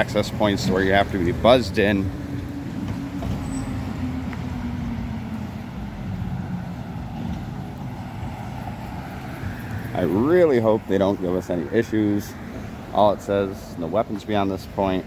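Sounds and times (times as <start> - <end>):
vehicle engine passing: 0.0 - 13.8.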